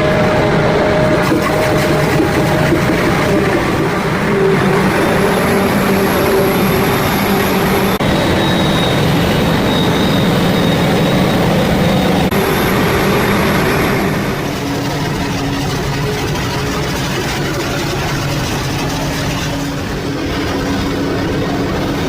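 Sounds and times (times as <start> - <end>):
faint high whine: 0.0 - 22.0
harvester engine drone: 0.0 - 22.0.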